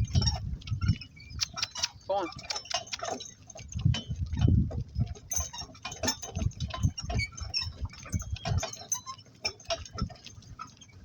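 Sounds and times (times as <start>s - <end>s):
hooves harness and cart rattling: 0.0s - 11.0s.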